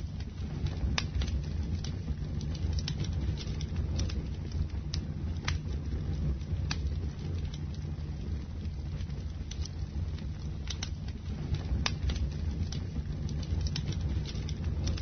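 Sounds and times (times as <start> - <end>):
bonfire flames rumbling: 0.0 - 15.0
burning wood crackling and popping: 0.0 - 15.0.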